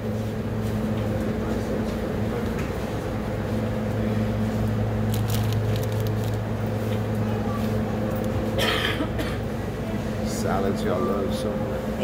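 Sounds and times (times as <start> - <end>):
refrigerator machine hum: 0.0 - 12.0.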